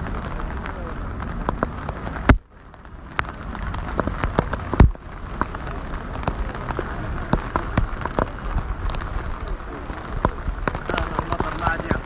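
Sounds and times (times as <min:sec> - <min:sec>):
rain falling: 0:00.0 - 0:12.0
raindrop taps: 0:00.0 - 0:12.0.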